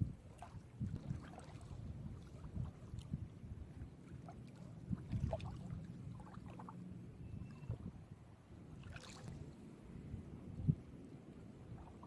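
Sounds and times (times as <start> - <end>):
sea waves lapping at shore: 0.0 - 7.0, 8.6 - 12.0.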